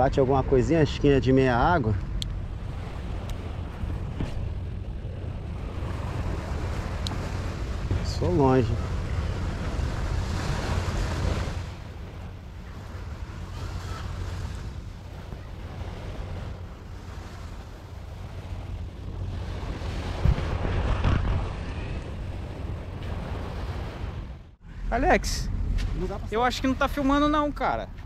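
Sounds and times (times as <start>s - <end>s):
wind buffeting microphone: 0.0s - 28.0s
small waves lapping: 1.8s - 24.5s.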